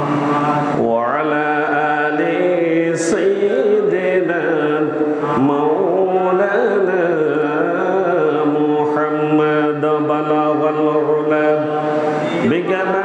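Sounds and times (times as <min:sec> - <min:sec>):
man chanting through a microphone: 0:00.0 - 0:13.0.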